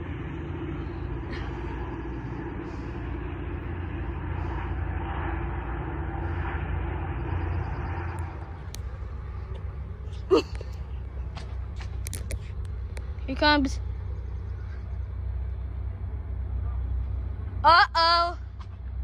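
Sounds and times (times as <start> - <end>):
diesel locomotive rumble: 0.0 - 19.0.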